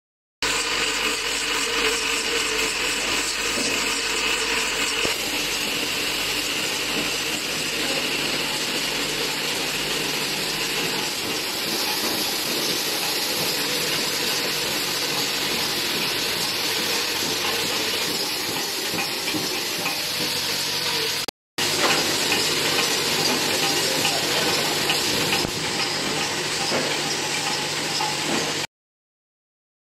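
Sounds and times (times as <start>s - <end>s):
wrapping machine rattling: 0.5s - 20.8s, 21.6s - 28.7s.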